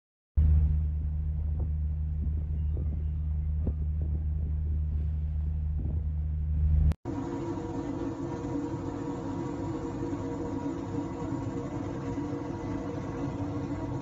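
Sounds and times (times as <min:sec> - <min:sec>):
boat engine droning: 0:00.4 - 0:14.0.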